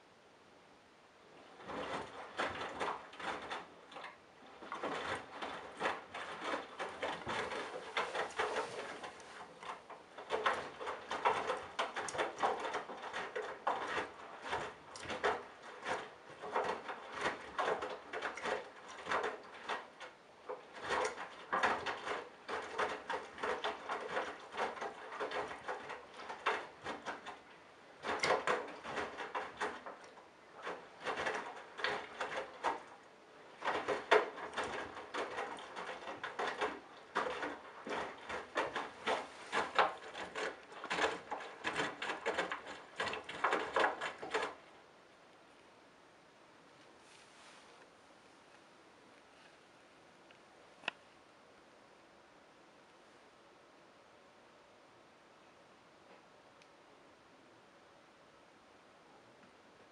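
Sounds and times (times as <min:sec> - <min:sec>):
washing machine tumbling laundry: 0:01.1 - 0:45.1, 0:45.7 - 0:50.1.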